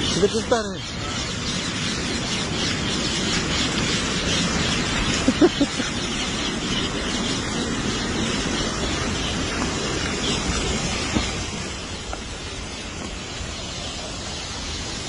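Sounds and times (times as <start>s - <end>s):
small bird chirps: 0.0s - 15.0s
steady rushing noise: 0.0s - 15.0s.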